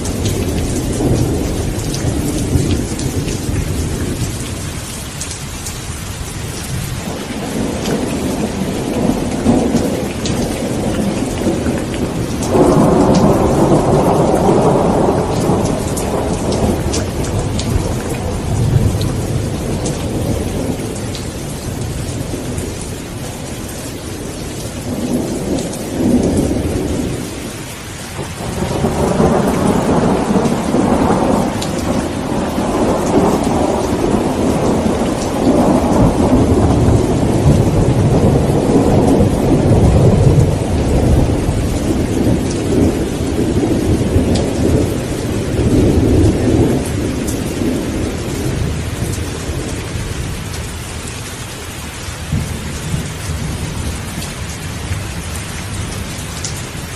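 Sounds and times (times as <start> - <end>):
rolling thunder: 0.0 - 5.4, 6.4 - 51.1, 52.2 - 56.6
steady rain hissing: 0.0 - 56.9.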